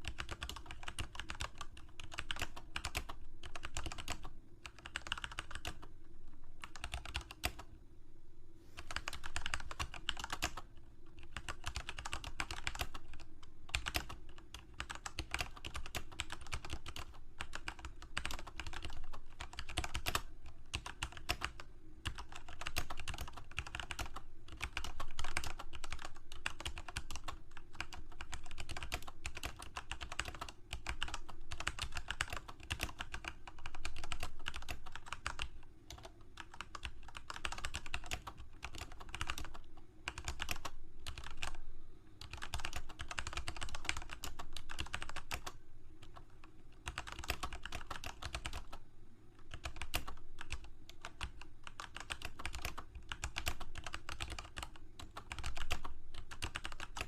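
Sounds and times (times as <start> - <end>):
keyboard typing: 0.0 - 5.9, 6.6 - 7.7, 8.8 - 41.6, 42.2 - 48.8, 49.4 - 57.0.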